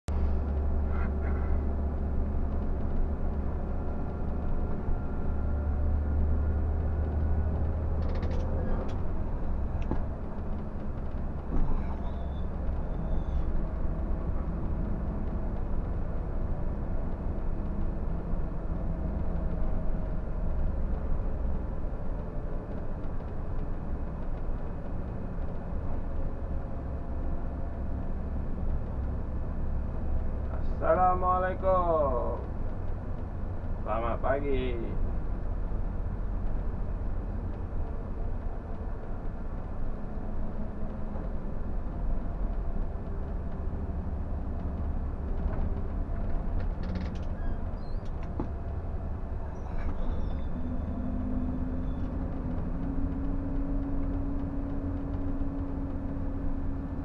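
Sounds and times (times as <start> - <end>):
bus diesel engine drone: 0.0 - 57.0
road noise: 0.1 - 57.0.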